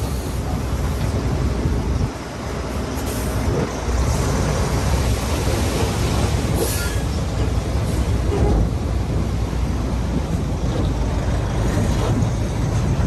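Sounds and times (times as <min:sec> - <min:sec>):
bulldozer diesel engine running: 0:00.0 - 0:13.0
steel tracks clattering: 0:00.0 - 0:13.0.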